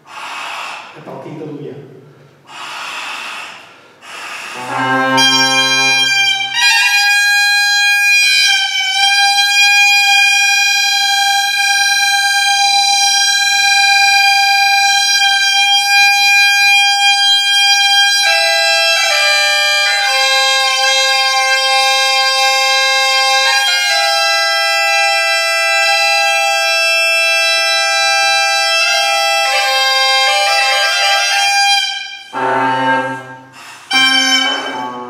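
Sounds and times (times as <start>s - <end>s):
bagpipe playing: 4.0s - 35.0s.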